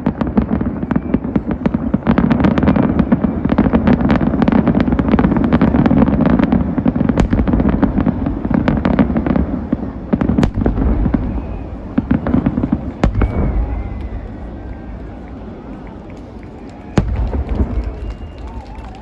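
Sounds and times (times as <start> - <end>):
heavy firework bang: 0.0 - 14.9, 16.9 - 18.6
fireworks bangs and crackles: 0.0 - 19.0.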